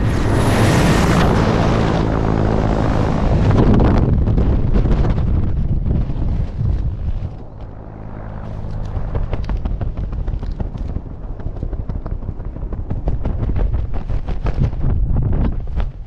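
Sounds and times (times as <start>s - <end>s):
parachute fabric flapping: 0.0s - 16.0s
wind buffeting microphone: 0.0s - 16.0s.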